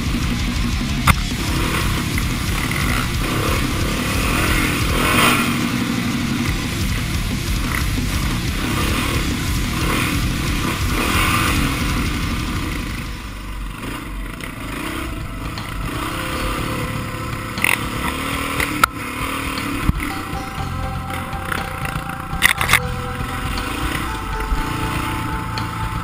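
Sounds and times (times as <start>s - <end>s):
dirt bike engine running hard: 0.0s - 26.0s.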